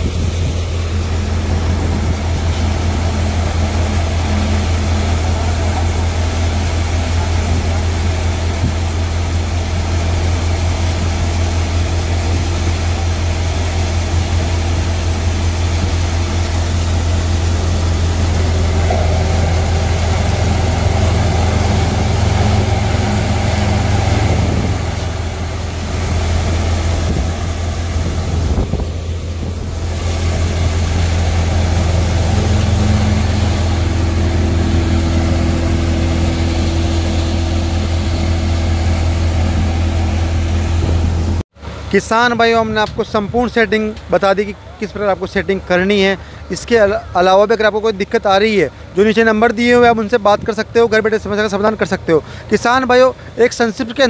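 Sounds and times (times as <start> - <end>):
thresher machine hum: 0.0 - 54.0.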